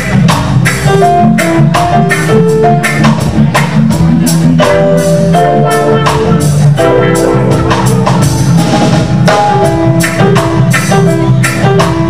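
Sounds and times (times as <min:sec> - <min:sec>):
bass guitar: 0:00.0 - 0:12.0
drum kit and percussion hits: 0:00.0 - 0:12.0
keyboard chords: 0:00.0 - 0:12.0.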